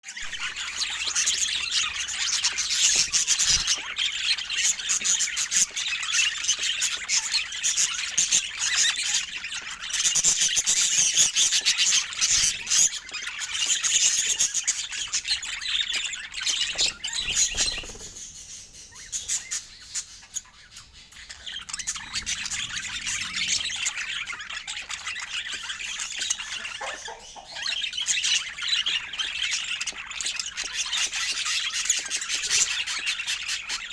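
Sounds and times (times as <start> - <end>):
budgerigars chirping and squawking: 0.1 - 33.9.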